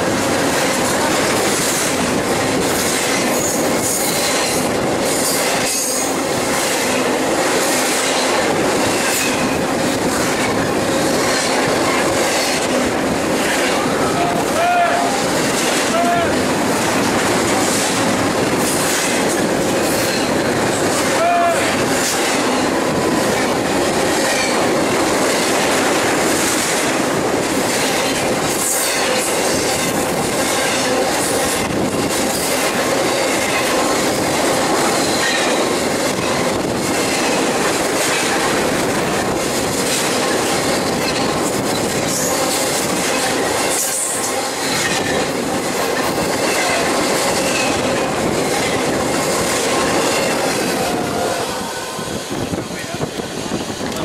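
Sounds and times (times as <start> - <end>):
train wheels rushing on rails: 0.0 - 54.0.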